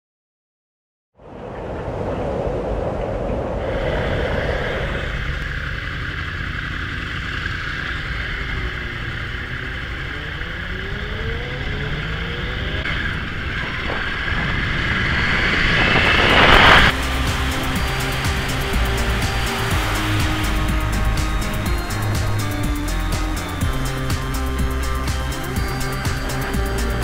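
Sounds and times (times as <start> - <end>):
wind noise: 1.2 - 6.5, 10.6 - 27.0
motorcycle engine: 4.0 - 27.0.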